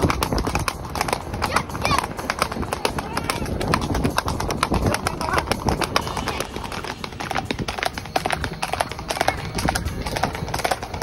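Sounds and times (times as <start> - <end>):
horse hooves clip-clopping on pavement: 0.0 - 11.0.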